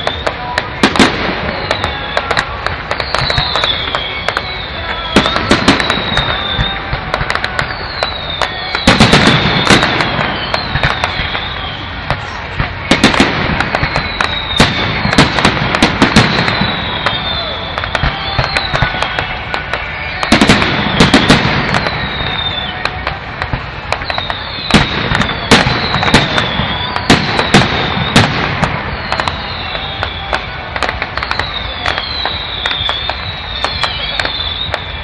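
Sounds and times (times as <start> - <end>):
crackling firework bursts: 0.0 - 35.0
firework bangs: 0.0 - 35.0
whistling fireworks: 0.0 - 35.0.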